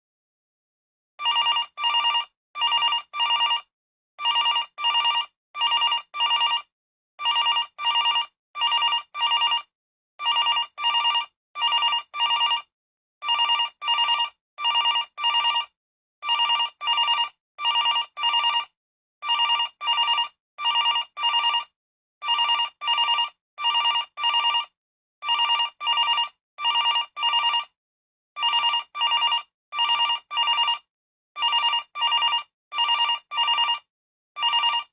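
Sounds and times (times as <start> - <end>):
landline telephone ringing: 1.2 - 27.8, 28.4 - 34.9.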